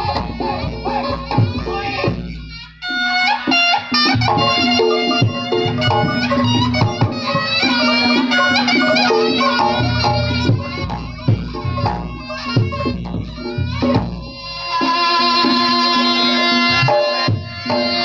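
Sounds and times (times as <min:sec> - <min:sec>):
drum beats: 0:00.0 - 0:18.0
reedy shawm melody: 0:00.0 - 0:18.0.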